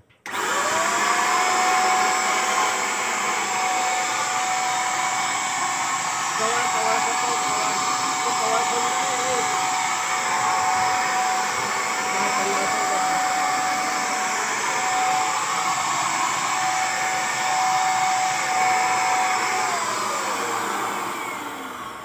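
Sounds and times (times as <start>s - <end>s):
electric paint sprayer whining: 0.2s - 22.0s.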